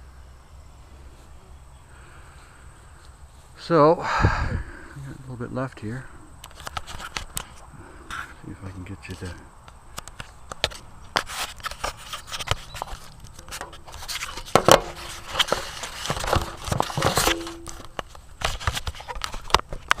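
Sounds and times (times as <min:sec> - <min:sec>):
rustling of needles and twigs: 0:00.5 - 0:04.0, 0:04.7 - 0:20.0.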